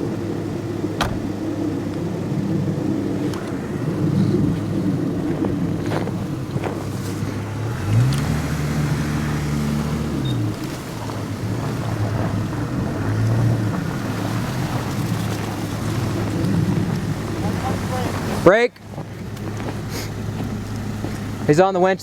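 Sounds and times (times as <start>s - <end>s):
vehicle engines idling: 0.0s - 22.0s.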